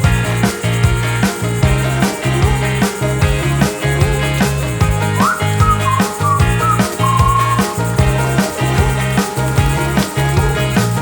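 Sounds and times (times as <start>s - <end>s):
music with whistled melody: 0.4s - 11.0s.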